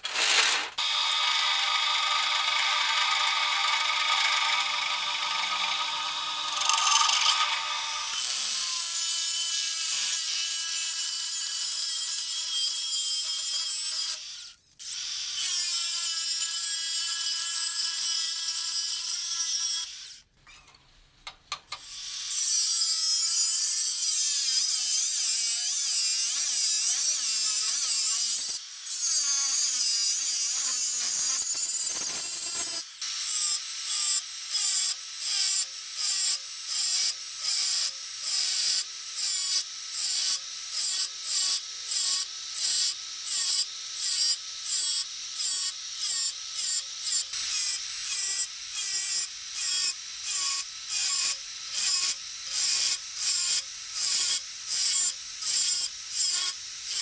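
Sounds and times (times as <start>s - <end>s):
angle grinder cutting steel: 0.0s - 20.2s, 21.8s - 57.0s.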